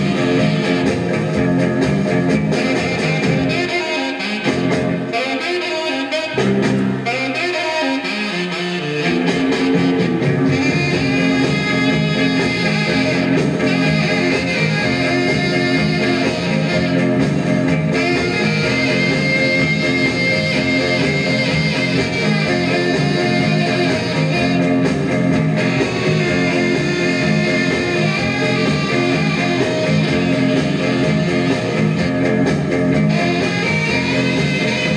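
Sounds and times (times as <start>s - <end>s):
blues-rock record playing: 0.0s - 34.9s.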